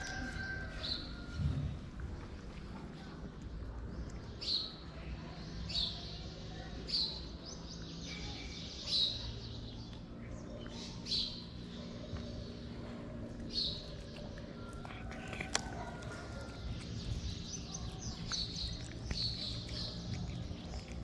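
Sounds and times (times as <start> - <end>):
faint low background hum: 0.0 - 21.0.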